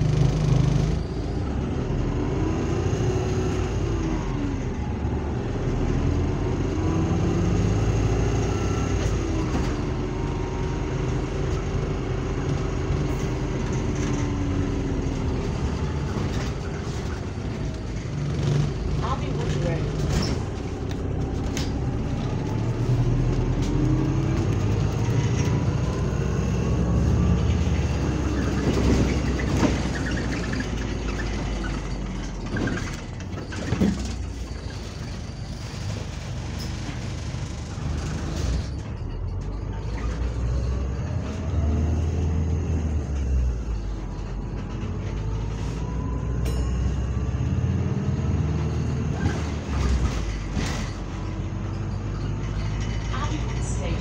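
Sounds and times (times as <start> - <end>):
bus engine drone: 0.0 - 54.0
rattles and knocks: 8.9 - 54.0.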